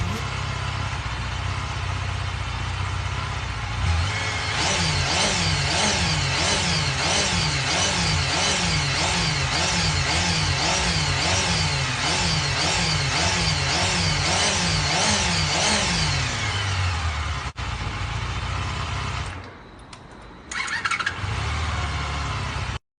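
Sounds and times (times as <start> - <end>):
motorcycle engine revving: 0.0 - 19.5, 20.5 - 22.8.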